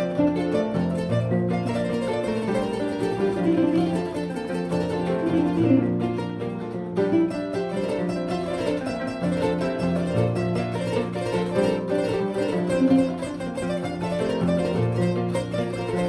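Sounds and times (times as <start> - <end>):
kora plucked notes: 0.0 - 16.0.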